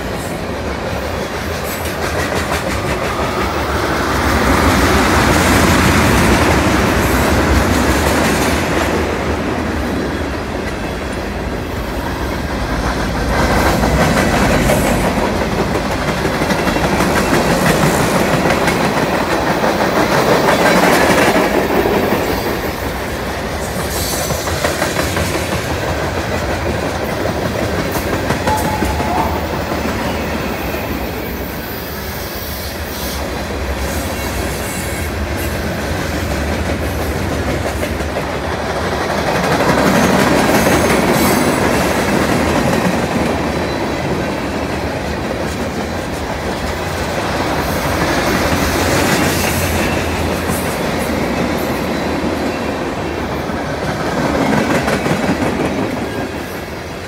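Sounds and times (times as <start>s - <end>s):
clickety-clack over rail joints: 0.0s - 30.2s, 33.8s - 57.0s
train wheels rumbling on rails: 0.0s - 57.0s.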